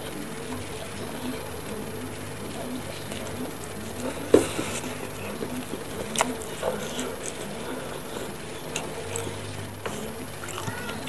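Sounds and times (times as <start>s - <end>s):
chewing mouth sounds: 0.1s - 11.0s.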